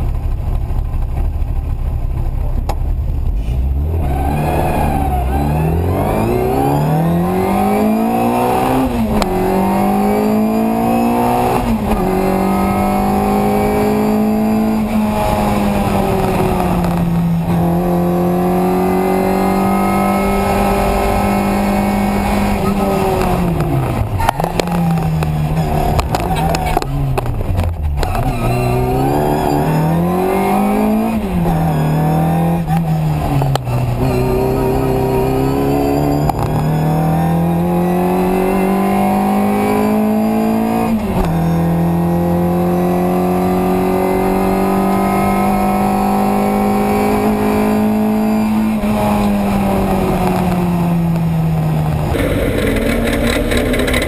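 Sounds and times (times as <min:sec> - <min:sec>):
race car engine revving: 0:03.4 - 0:54.0.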